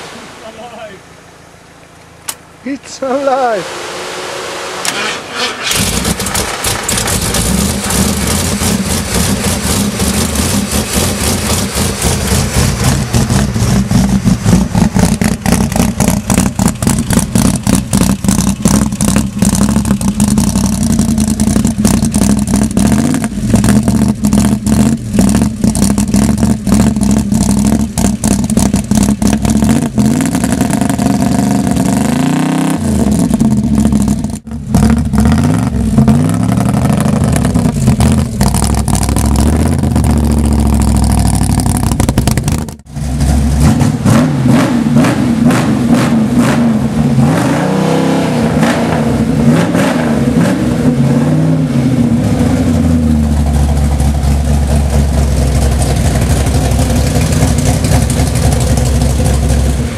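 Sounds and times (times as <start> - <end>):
engine running and revving: 3.1 - 59.9.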